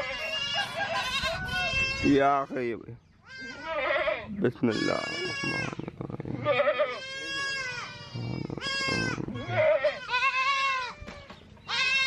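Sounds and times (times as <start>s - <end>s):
goats bleating: 0.0s - 2.4s, 3.2s - 12.0s.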